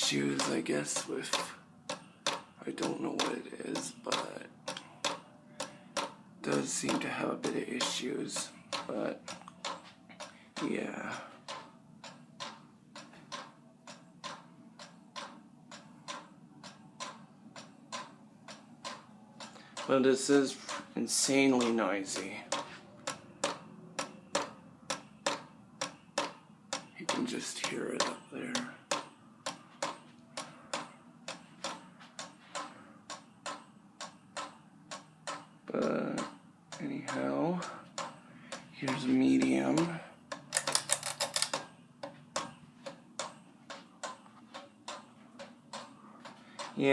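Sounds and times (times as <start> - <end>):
fan clicking: 0.0 - 46.9.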